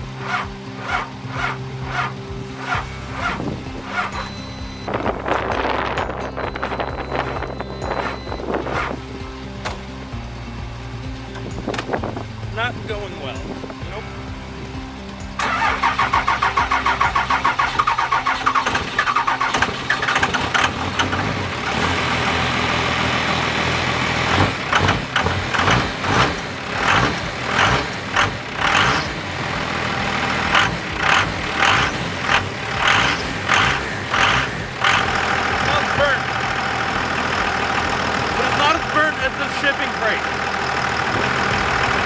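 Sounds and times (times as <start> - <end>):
engine cranking by starter: 0.0 - 42.0.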